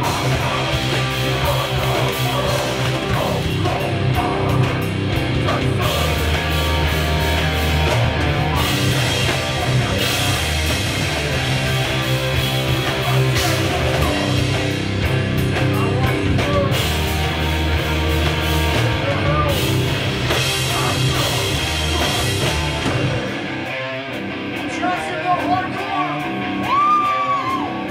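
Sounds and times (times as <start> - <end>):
heavy rock band playing: 0.0 - 27.9.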